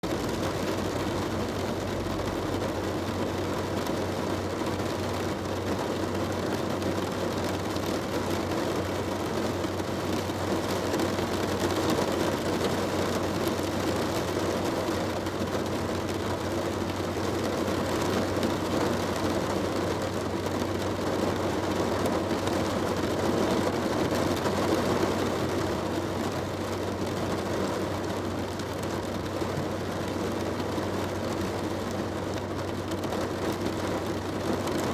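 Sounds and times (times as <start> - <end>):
heavy rain on car roof: 0.0 - 34.9.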